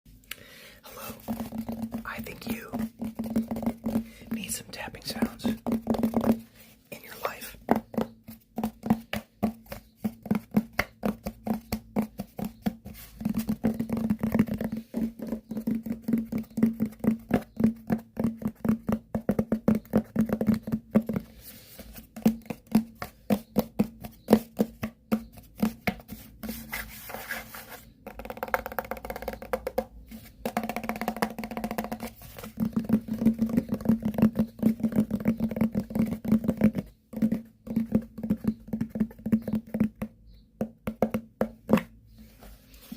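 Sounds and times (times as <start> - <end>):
rapid tapping on hard objects: 0.9 - 42.1.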